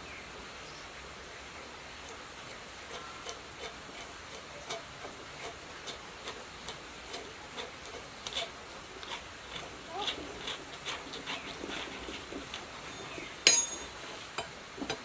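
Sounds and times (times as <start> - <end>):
regular ticking: 1.5 - 14.5.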